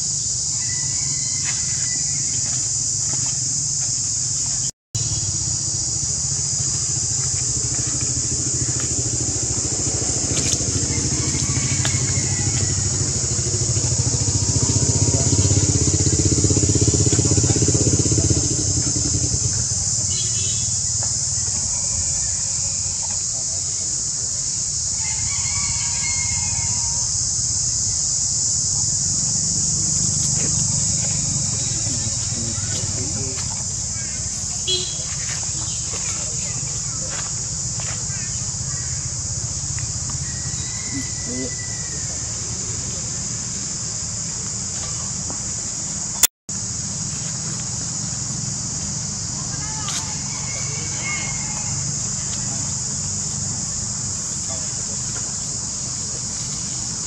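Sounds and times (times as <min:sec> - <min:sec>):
high-pitched insect drone: 0:00.0 - 0:57.0
vehicle engine rumbling: 0:00.0 - 0:57.0.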